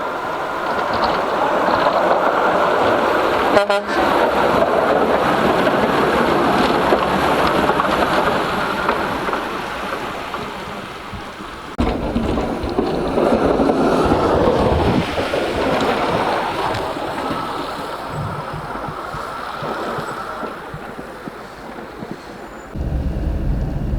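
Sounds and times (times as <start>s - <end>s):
vehicle road and wind noise: 0.0s - 23.9s.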